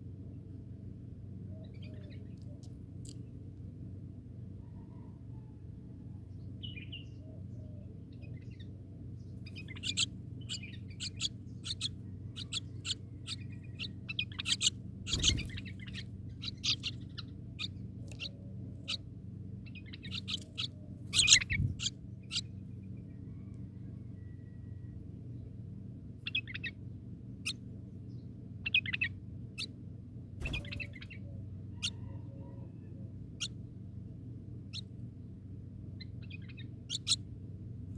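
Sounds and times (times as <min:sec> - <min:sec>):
steady low hum: 0:00.0 - 0:32.2.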